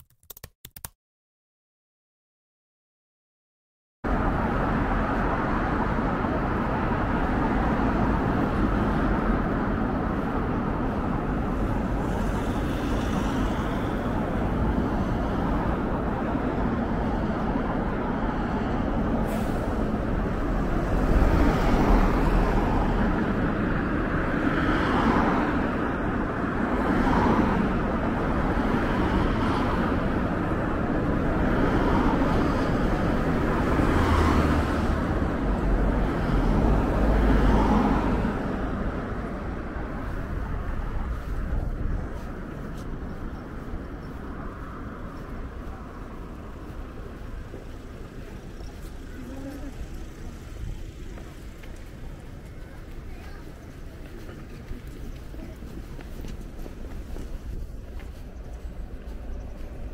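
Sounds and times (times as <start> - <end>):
cars driving past: 4.1 - 59.9.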